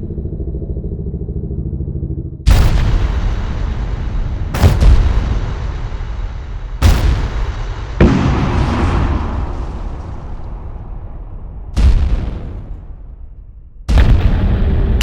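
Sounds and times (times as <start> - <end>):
explosion booms with rumble: 2.4 - 15.0.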